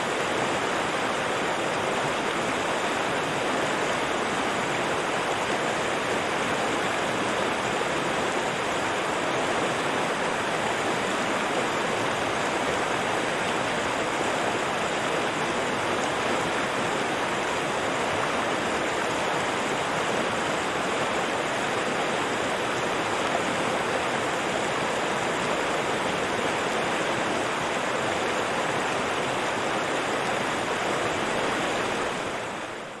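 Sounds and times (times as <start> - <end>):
river water flowing: 0.0 - 33.0.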